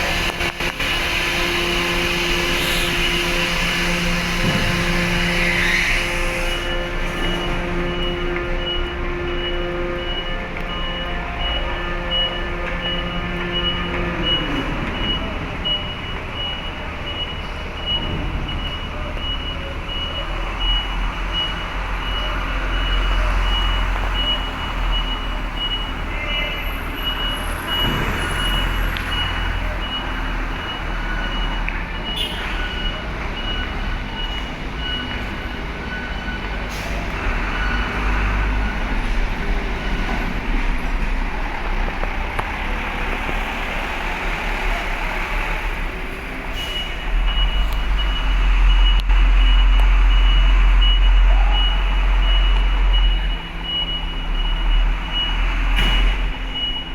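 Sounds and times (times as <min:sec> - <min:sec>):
heavy truck engines rumbling: 0:00.0 - 0:56.9
reversing alarm beeping: 0:00.0 - 0:56.9.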